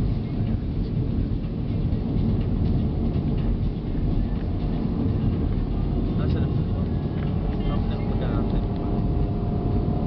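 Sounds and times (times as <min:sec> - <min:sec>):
vehicle driving fast: 0:00.0 - 0:10.0.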